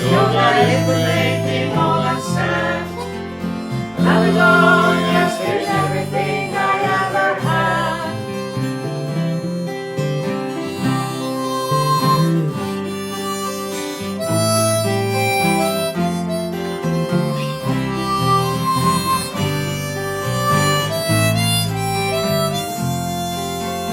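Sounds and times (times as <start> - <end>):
harmonica melody: 0.0 - 23.9
strummed acoustic guitar: 0.0 - 23.9.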